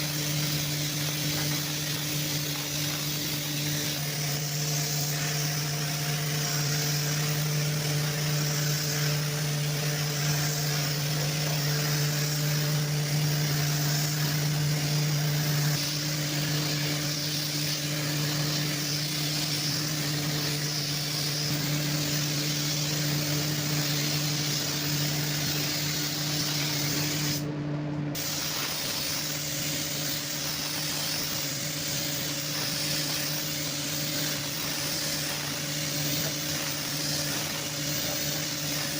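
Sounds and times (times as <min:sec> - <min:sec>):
airy spray hiss: 0:00.0 - 0:27.4, 0:28.2 - 0:38.9
electric motor hum: 0:00.0 - 0:38.9.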